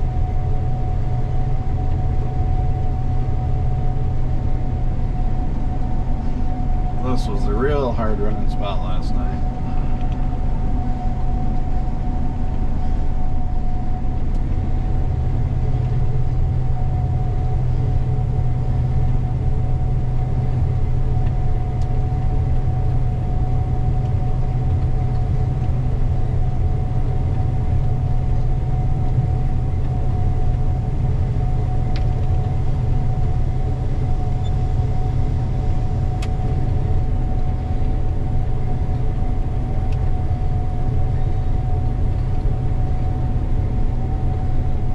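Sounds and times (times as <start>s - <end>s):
combine harvester engine drone: 0.0s - 44.9s
constant machine whine: 0.0s - 44.9s.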